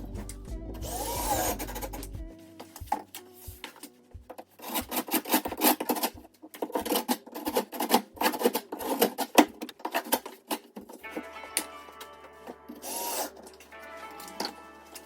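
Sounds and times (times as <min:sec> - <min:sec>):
rough scraping and rubbing: 0:00.9 - 0:15.0.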